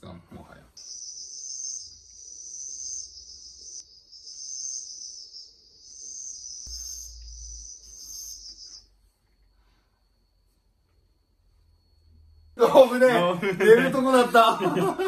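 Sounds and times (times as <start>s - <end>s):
crickets chirring: 0.4s - 15.0s
thin steady tone: 0.8s - 14.2s.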